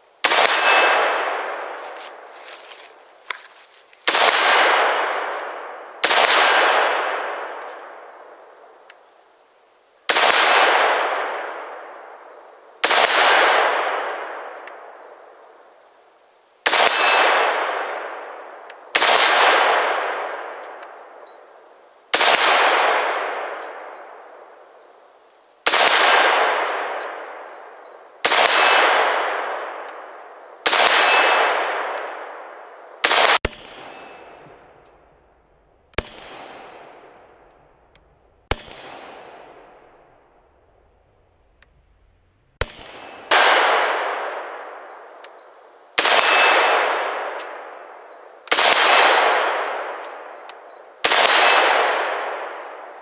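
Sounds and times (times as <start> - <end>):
rifle shots with metallic ringing: 0.2 - 2.6, 4.0 - 8.8, 10.1 - 15.6, 16.6 - 24.9, 25.6 - 35.1, 35.9 - 37.5, 38.4 - 40.2, 42.6 - 53.0.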